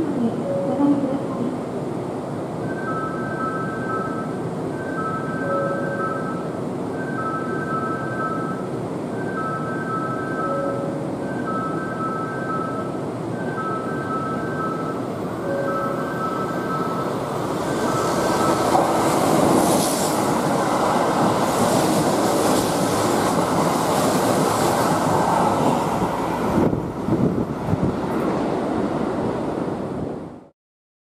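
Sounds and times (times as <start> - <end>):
electric train passing at speed: 0.0 - 30.5.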